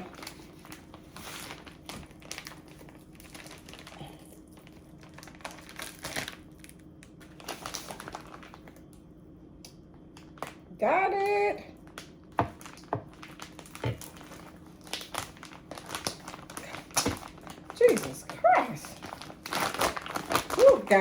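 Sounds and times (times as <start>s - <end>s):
plastic packaging crinkling: 0.0s - 8.9s, 11.8s - 21.0s.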